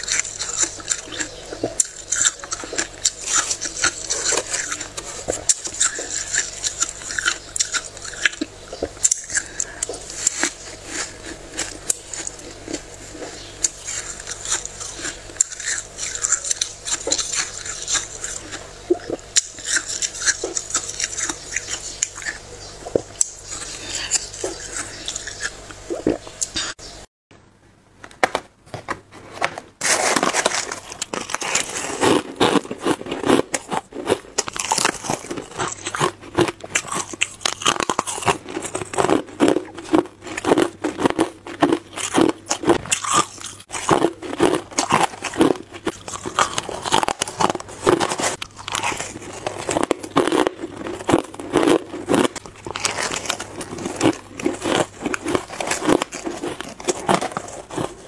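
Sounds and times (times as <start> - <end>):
chewing crunchy ice: 0.0 - 26.8, 29.8 - 58.0.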